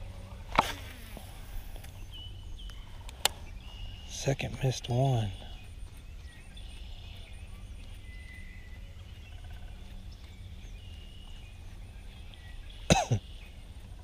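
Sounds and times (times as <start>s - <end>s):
faint bird chirps: 0.0s - 14.0s
low wind rumble: 0.0s - 14.0s.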